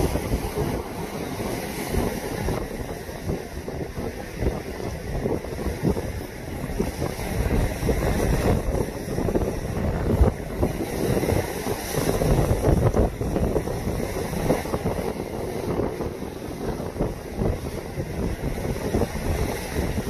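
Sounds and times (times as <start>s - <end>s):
waves breaking against seawall: 0.0s - 20.0s
wind rumbling on microphone: 0.0s - 20.0s.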